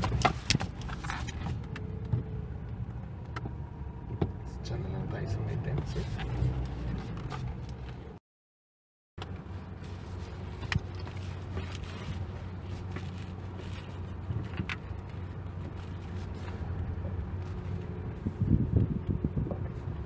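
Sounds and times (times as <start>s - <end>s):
diesel engine and tyres hum: 0.0s - 8.2s, 9.2s - 20.0s.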